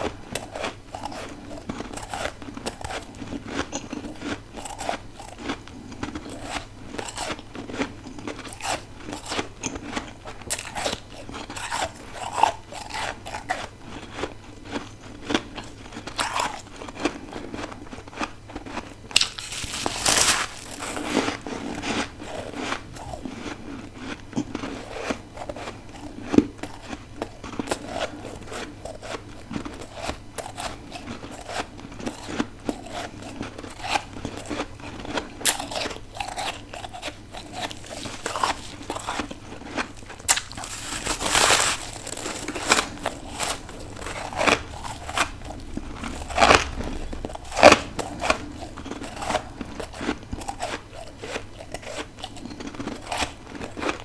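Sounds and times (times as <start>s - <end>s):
biting and chewing ice: 0.0s - 54.0s.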